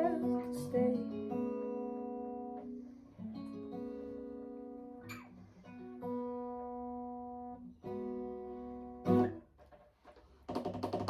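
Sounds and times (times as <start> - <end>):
acoustic guitar strumming chords: 0.0 - 9.5.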